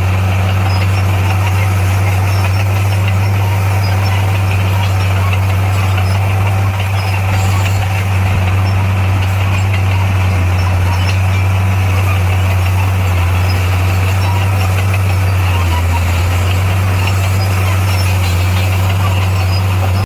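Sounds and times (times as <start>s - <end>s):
heavy diesel engine droning: 0.0s - 20.0s.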